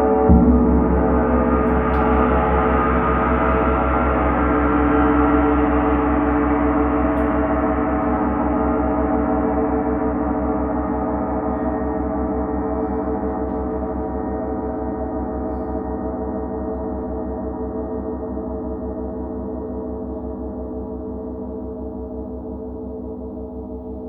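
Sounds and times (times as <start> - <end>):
low throbbing pulse: 0.0 - 24.0
sustained ringing chord: 0.0 - 24.0.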